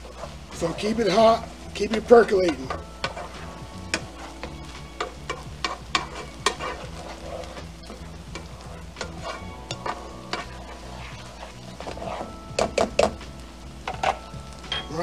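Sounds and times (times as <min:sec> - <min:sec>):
spoon scraping a frying pan: 0:00.0 - 0:13.1
low sizzle: 0:00.0 - 0:15.0.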